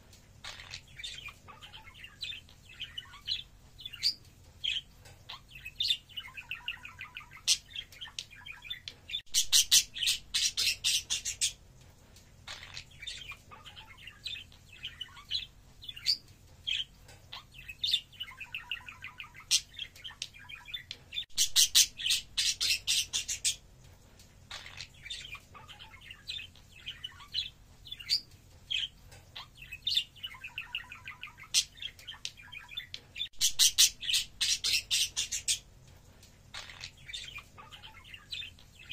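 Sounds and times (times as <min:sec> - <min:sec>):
budgerigars chattering and warbling: 0:00.4 - 0:11.6, 0:12.5 - 0:23.6, 0:24.5 - 0:35.6, 0:36.5 - 0:38.9.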